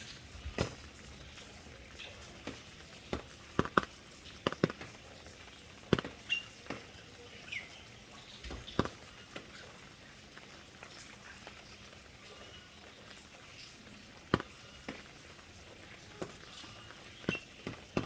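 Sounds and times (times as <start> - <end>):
rain drops tapping on surfaces: 0.0 - 18.0.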